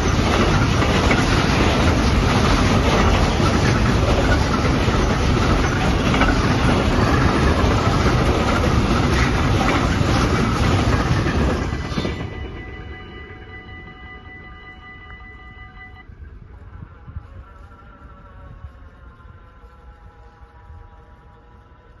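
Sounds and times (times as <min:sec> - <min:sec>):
freight train wagons rolling past: 0:00.0 - 0:22.0.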